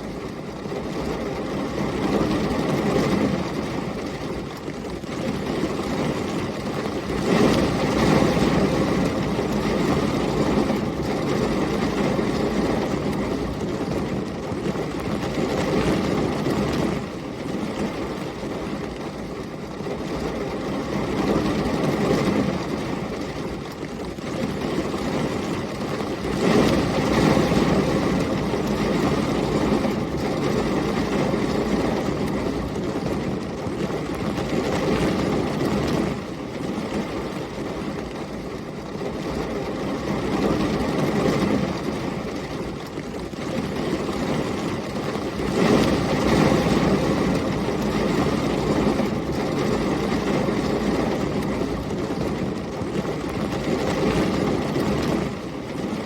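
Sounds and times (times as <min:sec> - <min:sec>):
heavy rain: 0:00.0 - 0:56.0
storm wind: 0:00.0 - 0:56.0.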